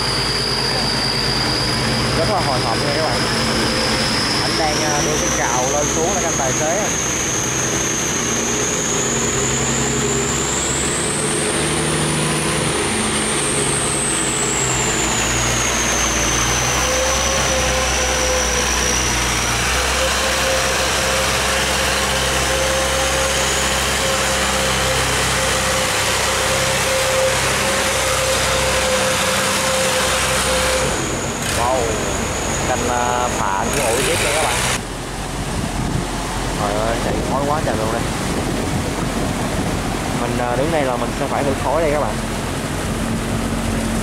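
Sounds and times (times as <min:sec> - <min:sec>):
boat engines running: 0:00.0 - 0:44.0
churning water rushing: 0:00.0 - 0:44.0
high whine: 0:00.0 - 0:44.0
steady hum: 0:00.0 - 0:44.0.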